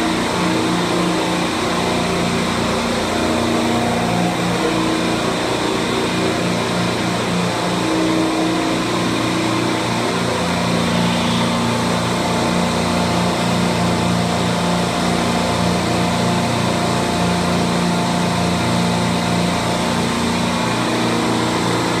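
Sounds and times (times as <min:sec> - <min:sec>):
refrigeration compressors humming: 0:00.0 - 0:22.0.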